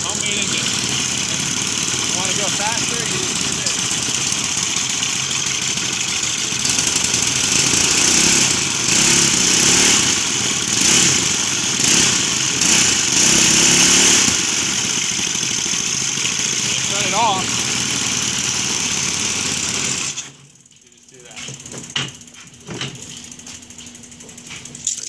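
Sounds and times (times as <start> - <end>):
small engine revving: 0.0 - 20.4.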